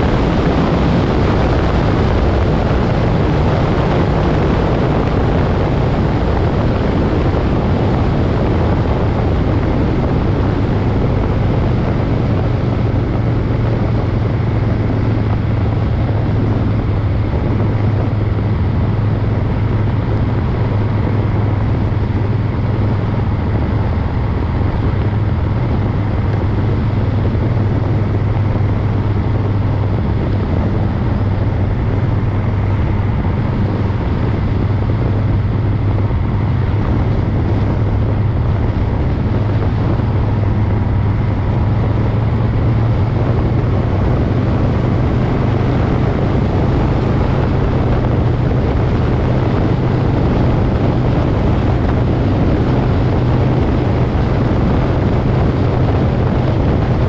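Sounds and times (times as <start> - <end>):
motorcycle engine cruising: 0.0 - 57.0
road noise: 0.0 - 57.0
wind rushing: 0.0 - 57.0.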